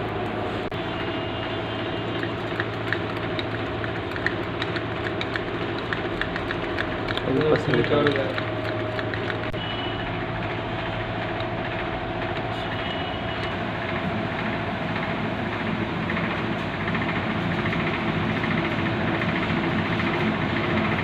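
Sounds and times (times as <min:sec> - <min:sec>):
loud machinery drone: 0:00.0 - 0:21.0.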